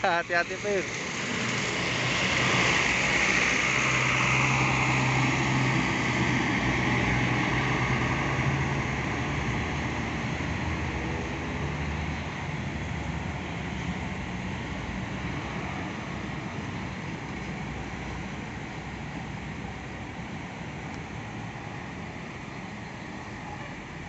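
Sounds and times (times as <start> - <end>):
diesel coach engine: 0.0 - 24.0
tyres hissing on wet road: 0.0 - 24.0.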